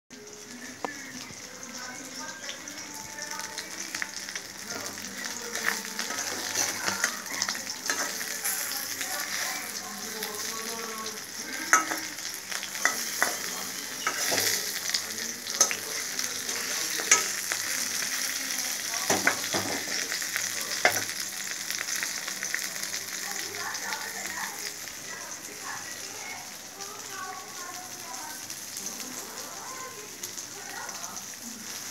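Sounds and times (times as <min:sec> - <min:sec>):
fish sizzling in oil: 0:00.1 - 0:31.9.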